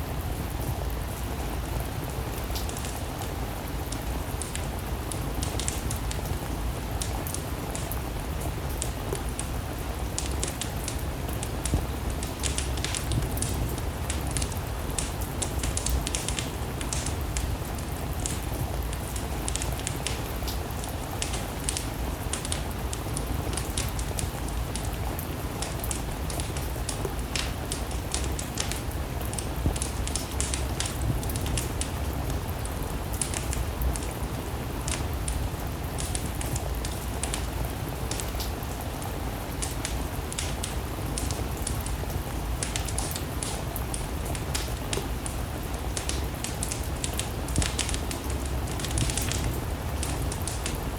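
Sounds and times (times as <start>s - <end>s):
steady rain: 0.0s - 50.9s
wood fire crackling: 0.1s - 50.9s.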